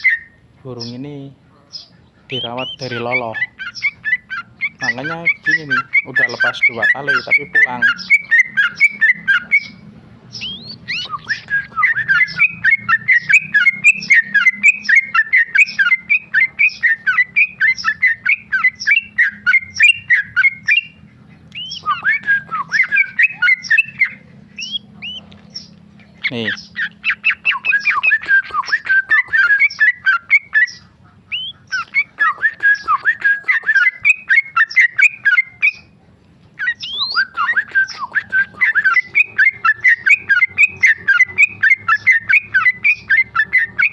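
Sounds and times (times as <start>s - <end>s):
bulbul singing chattering notes: 1.8s - 36.0s, 36.6s - 43.9s.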